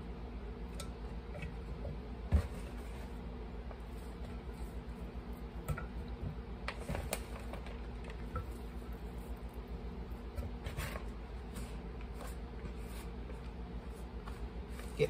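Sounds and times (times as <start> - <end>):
steady low hum: 0.0 - 15.0
dough squishing: 0.7 - 15.0.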